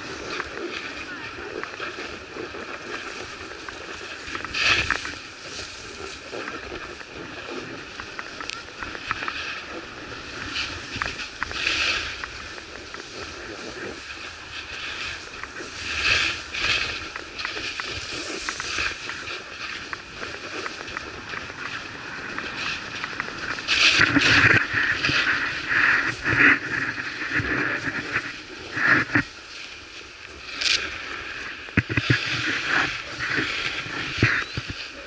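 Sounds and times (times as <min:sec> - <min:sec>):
ski swooshes: 0:00.0 - 0:35.0
skis scraping over snow: 0:00.0 - 0:35.0.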